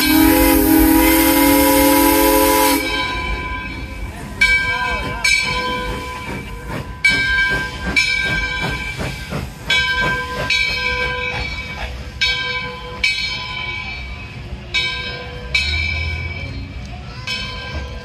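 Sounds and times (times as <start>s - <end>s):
locomotive bell clanging: 0.0s - 18.0s
train rumbling: 0.0s - 18.0s.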